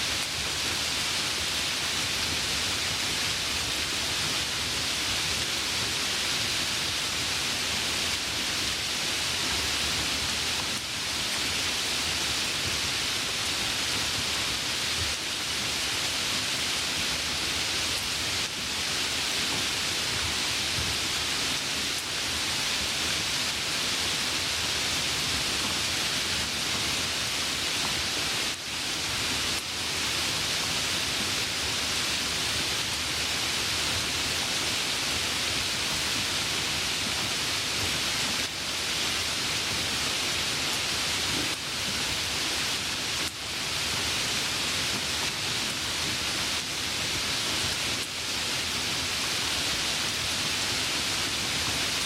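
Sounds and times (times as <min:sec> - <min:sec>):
light rain falling: 0:00.0 - 0:52.0.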